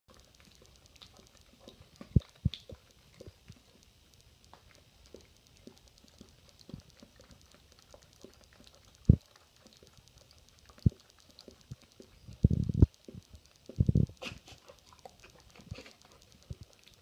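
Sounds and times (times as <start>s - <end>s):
dog tongue licking clicks: 0.1s - 17.0s.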